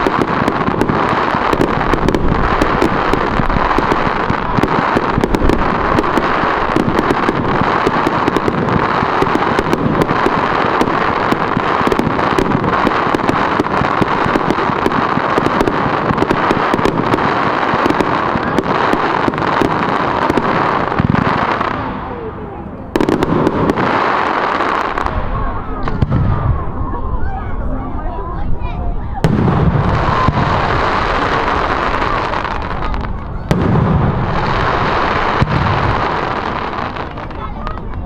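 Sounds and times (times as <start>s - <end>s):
fireworks cracking and popping: 0.0s - 27.0s, 29.1s - 38.0s
steady background noise: 0.0s - 38.0s.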